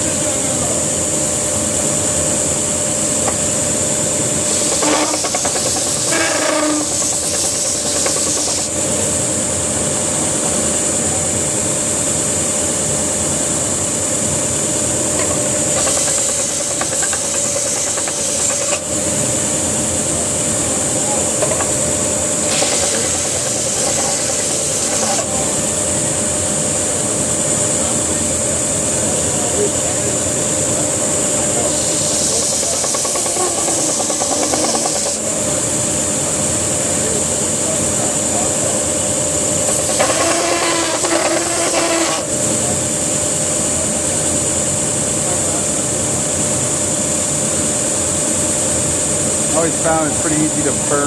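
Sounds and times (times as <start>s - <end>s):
belt sander whining and hissing: 0.0s - 51.0s.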